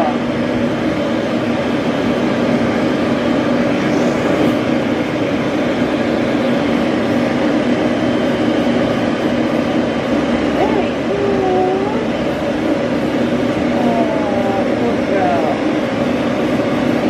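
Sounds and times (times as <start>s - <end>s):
pet dryer blowing air: 0.0s - 17.0s.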